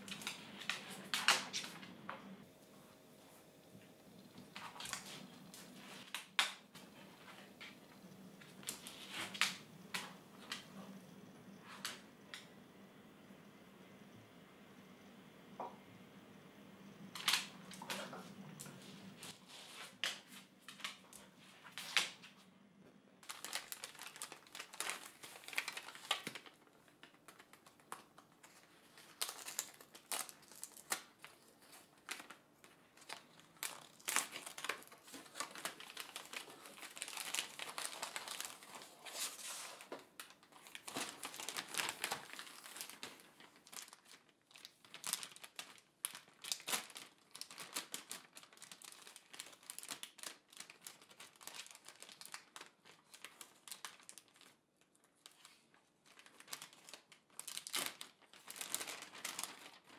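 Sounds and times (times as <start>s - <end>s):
paper crinkling as unwrapped: 0.0s - 2.4s, 3.8s - 10.8s, 17.1s - 22.3s, 23.2s - 59.9s.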